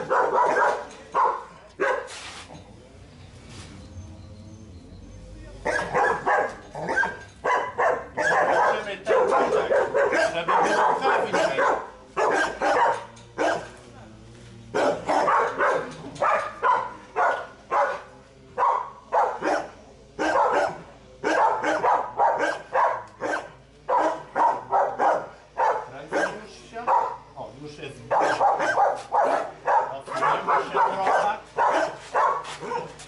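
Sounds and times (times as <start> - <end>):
dog barking: 0.0 - 2.1, 5.6 - 13.8, 14.7 - 27.3, 28.1 - 33.0.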